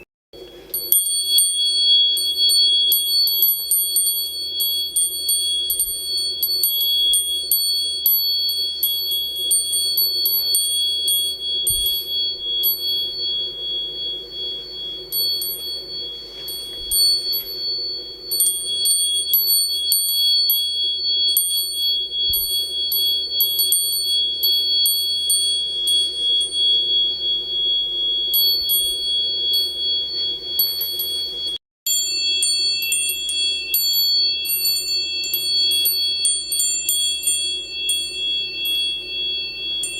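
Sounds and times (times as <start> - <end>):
door chime ringing: 0.6 - 39.9.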